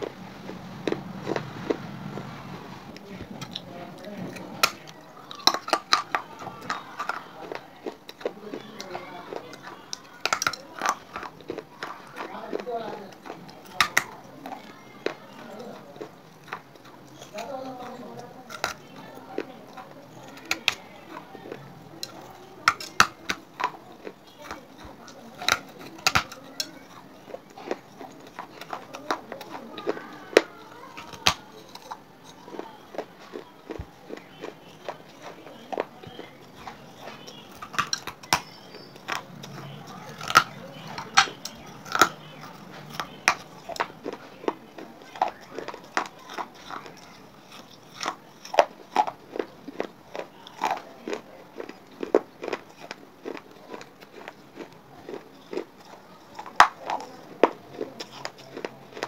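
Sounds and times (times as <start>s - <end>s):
chewing crunchy clay: 0.0s - 59.0s.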